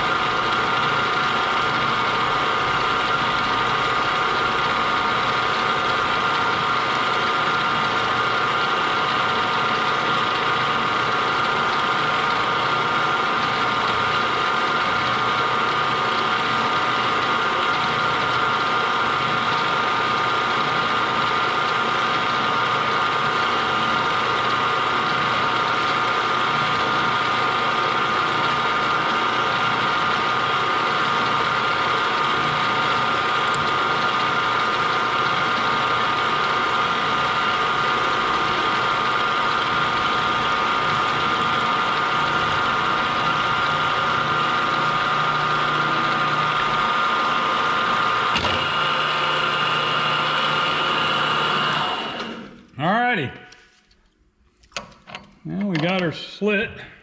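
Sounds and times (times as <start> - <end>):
machine tool cutter running: 0.0 - 52.7.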